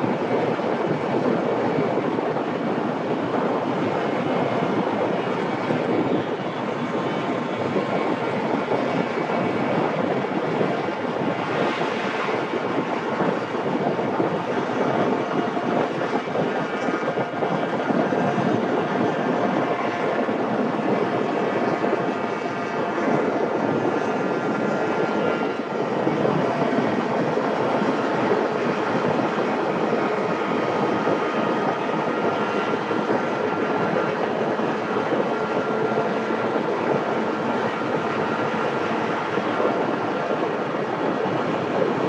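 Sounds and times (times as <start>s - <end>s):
wind rush on microphone: 0.0s - 42.0s.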